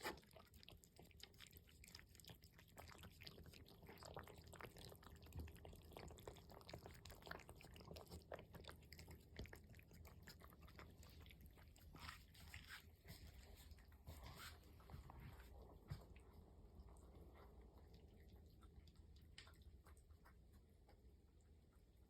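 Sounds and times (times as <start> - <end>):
cats crunching dry food: 0.0 - 22.0.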